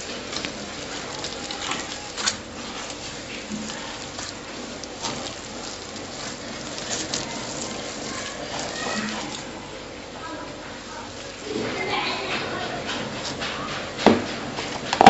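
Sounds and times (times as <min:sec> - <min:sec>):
hand rubbing crumbly dough: 0:00.0 - 0:15.0.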